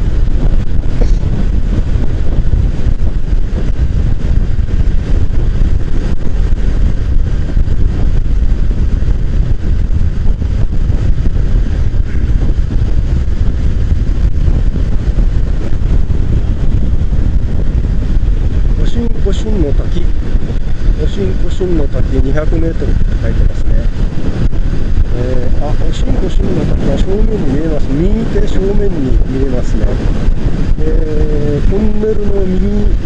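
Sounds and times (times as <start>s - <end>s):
road noise: 0.0s - 33.0s
wind rushing over microphone: 0.0s - 33.0s.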